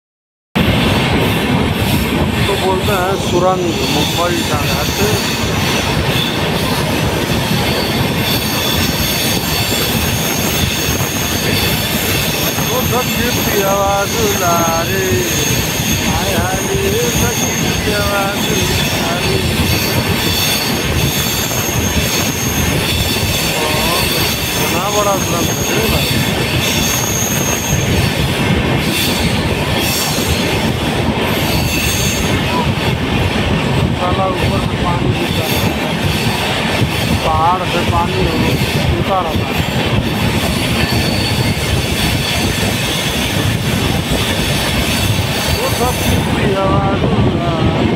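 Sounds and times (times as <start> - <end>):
train rumble and clatter: 0.6 - 47.9
wheels squealing on rails: 0.6 - 47.9.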